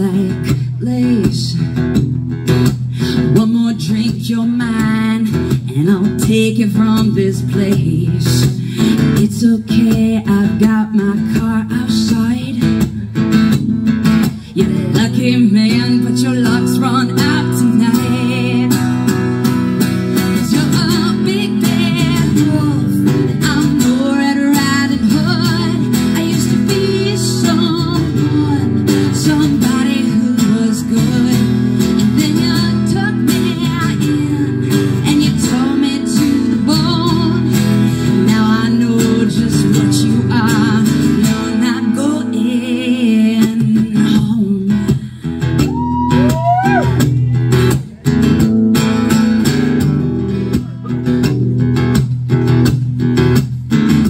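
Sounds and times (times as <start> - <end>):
woman singing: 0.0 - 13.3, 14.2 - 47.1
acoustic guitar strumming: 0.0 - 54.0.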